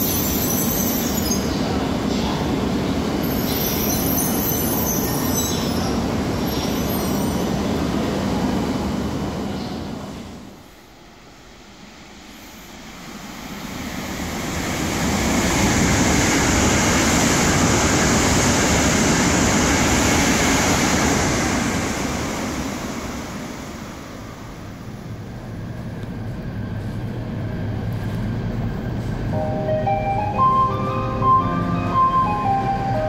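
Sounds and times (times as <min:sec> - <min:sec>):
train rushing past: 0:00.0 - 0:33.0.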